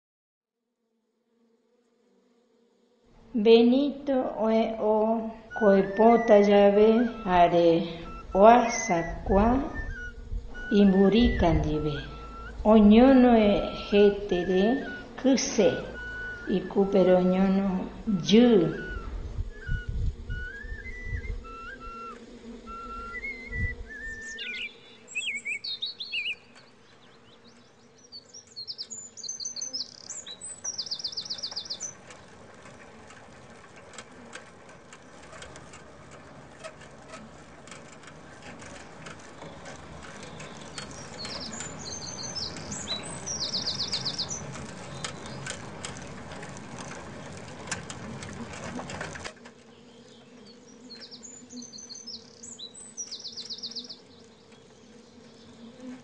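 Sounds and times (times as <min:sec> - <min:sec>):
songbird chirping and trilling: 0:03.4 - 0:56.0
rough steady noise with clicks: 0:07.0 - 0:56.0.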